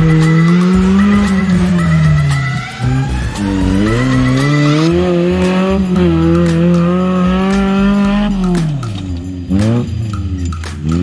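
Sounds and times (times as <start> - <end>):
buggy engine accelerating: 0.0 - 11.0.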